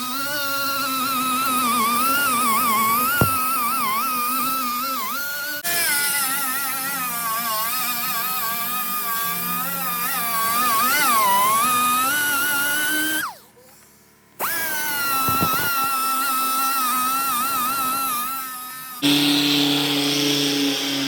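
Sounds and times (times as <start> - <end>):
rotary power tool whining: 0.0 - 21.0.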